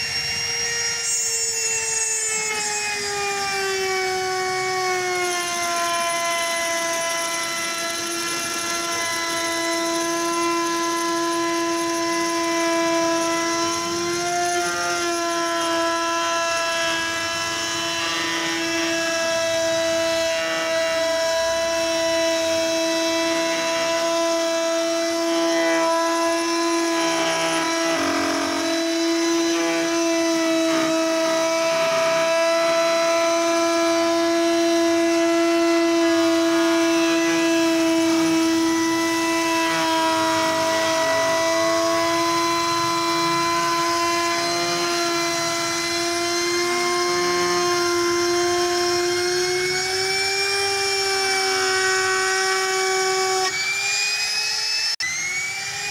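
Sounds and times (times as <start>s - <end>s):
electric router whining: 0.0s - 55.9s.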